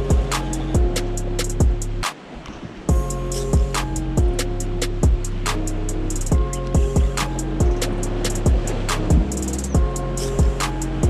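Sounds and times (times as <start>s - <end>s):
background music with drum beat: 0.0s - 2.2s, 2.9s - 11.0s.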